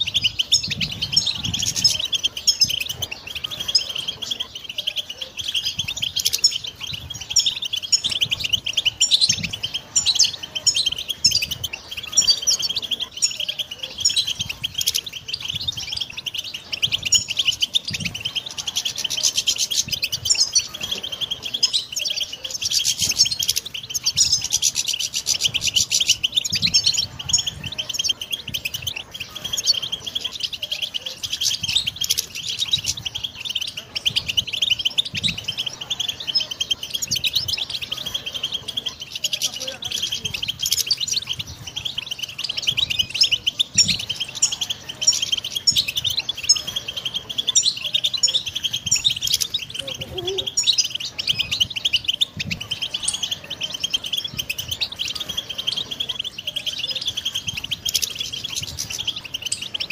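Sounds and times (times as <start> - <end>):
bird twittering song: 0.0 - 59.9.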